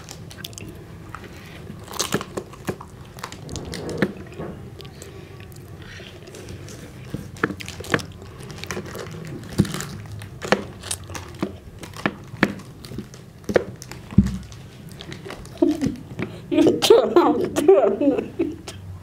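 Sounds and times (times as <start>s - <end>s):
plastic wrapper crinkling: 0.0s - 16.2s
biting and chewing: 0.0s - 16.4s.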